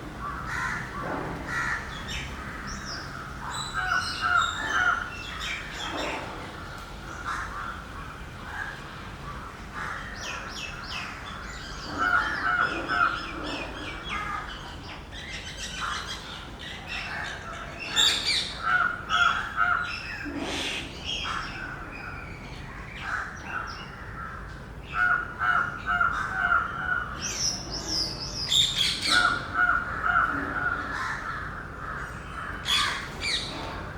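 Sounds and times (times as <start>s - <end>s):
birds calling: 0.0s - 33.9s.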